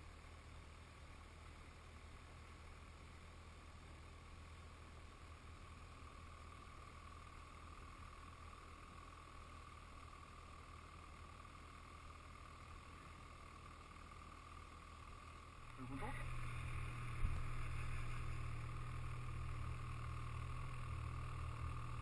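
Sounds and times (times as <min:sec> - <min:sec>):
faint steady hiss: 0:00.0 - 0:22.0
low hum: 0:00.0 - 0:22.0.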